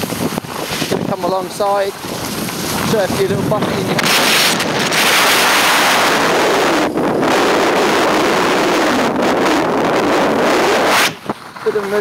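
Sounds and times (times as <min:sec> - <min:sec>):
skis sliding on snow: 0:00.0 - 0:12.0
wind buffeting microphone: 0:00.0 - 0:12.0.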